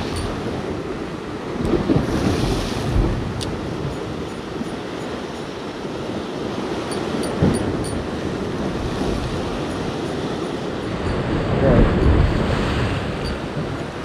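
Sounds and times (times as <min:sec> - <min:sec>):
surf breaking on rocky shore: 0:00.0 - 0:14.0
wind buffeting microphone: 0:00.0 - 0:14.0.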